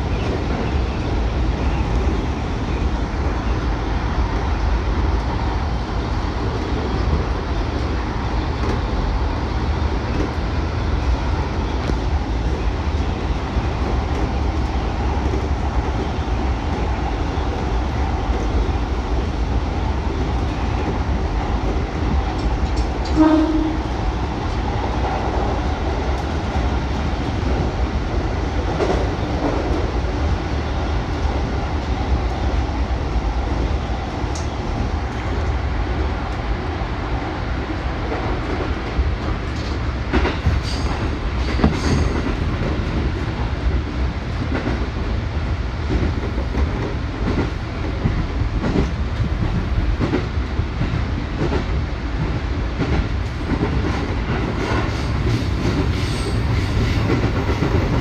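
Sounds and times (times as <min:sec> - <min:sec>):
train running gear rumble: 0:00.0 - 0:58.0.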